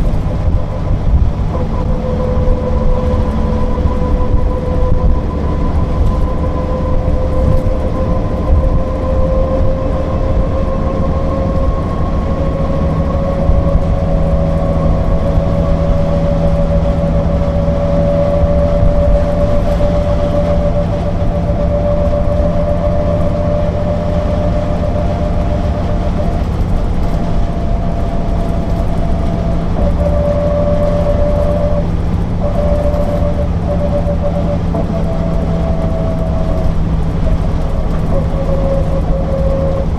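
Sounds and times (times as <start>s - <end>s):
bus engine and road rumble: 0.0s - 39.9s
whining tone: 0.0s - 39.9s.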